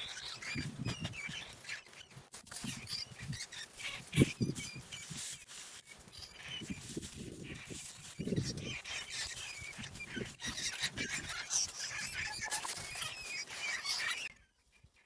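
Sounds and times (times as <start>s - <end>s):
rats squealing: 0.0s - 5.4s, 6.0s - 14.4s.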